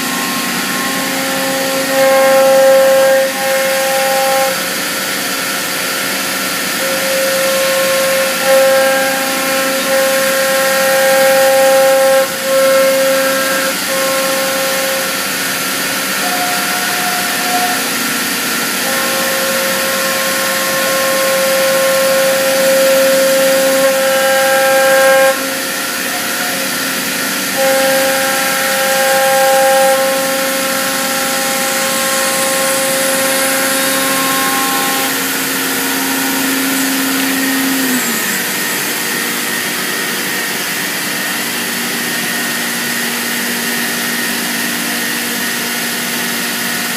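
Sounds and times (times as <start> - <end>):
router high whine: 0.0 - 46.9.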